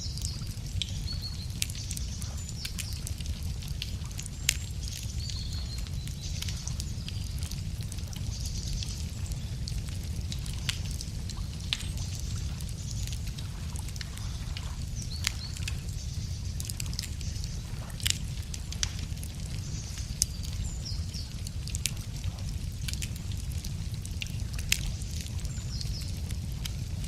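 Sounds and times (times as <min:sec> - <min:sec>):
birds chirping faintly: 0:00.0 - 0:27.0
steady low rumble: 0:00.0 - 0:27.0
wood fire crackling: 0:00.0 - 0:27.0.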